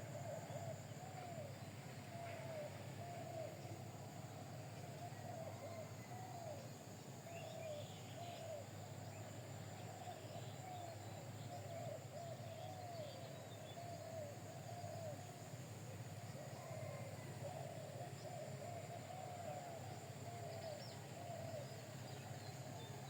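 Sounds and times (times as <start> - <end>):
constant low hum: 0.0 - 23.0.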